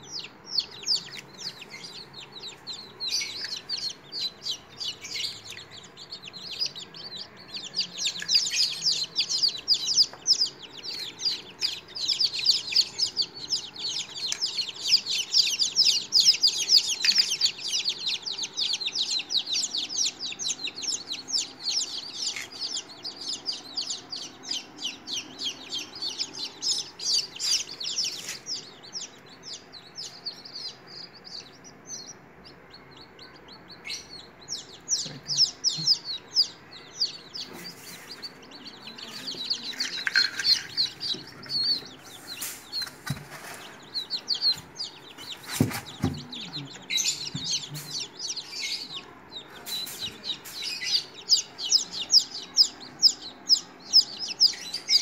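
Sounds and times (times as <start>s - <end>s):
chicks peeping: 0.0s - 55.0s.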